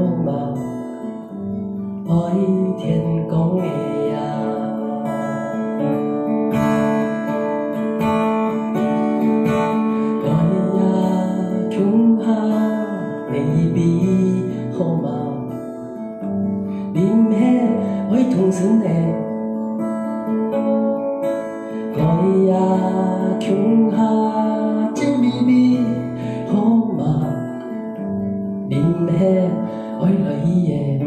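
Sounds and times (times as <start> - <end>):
strummed acoustic guitar: 0.0 - 31.0.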